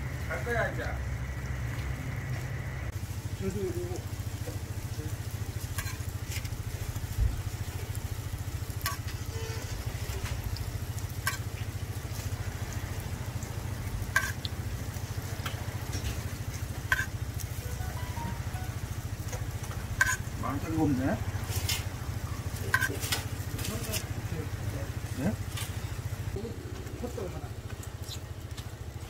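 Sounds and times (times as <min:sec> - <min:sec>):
food sizzling in oil: 0:00.1 - 0:26.4.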